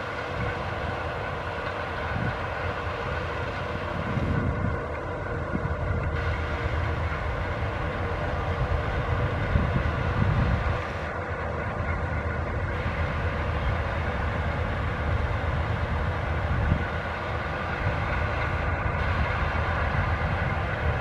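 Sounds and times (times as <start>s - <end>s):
combine harvester drone: 0.0s - 21.0s
constant machine whine: 0.0s - 21.0s
low rumbling engine: 0.0s - 21.0s.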